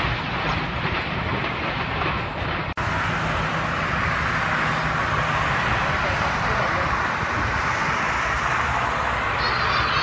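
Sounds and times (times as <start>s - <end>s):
train carriage rumble and rush: 0.0s - 10.0s.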